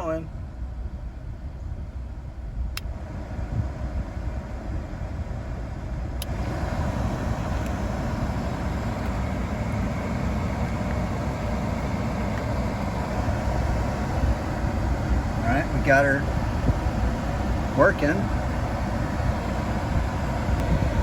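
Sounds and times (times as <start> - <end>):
blower fan rushing air: 0.0 - 21.0
engine idling: 0.0 - 21.0.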